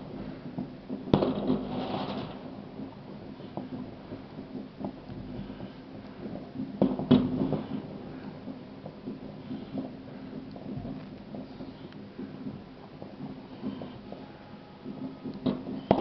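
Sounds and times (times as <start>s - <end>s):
distant fireworks bangs and crackles: 0.0s - 16.0s.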